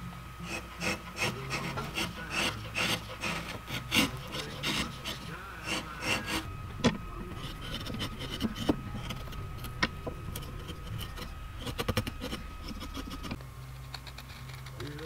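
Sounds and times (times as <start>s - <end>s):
chisel scraping wood: 0.4s - 13.4s.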